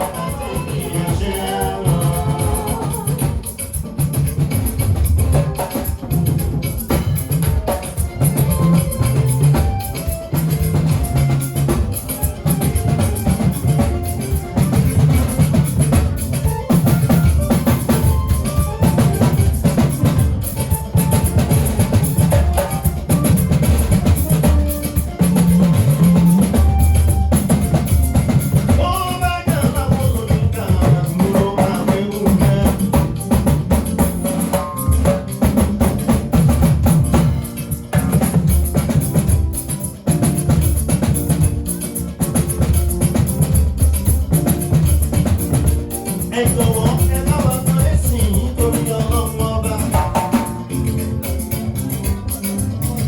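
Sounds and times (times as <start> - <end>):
band playing: 0.0 - 53.0
drum kit beating: 0.0 - 53.0.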